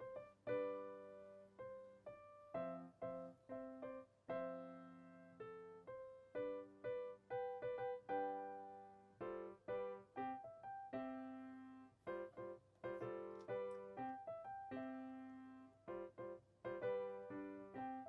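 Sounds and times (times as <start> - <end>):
light piano tune: 0.0 - 18.0.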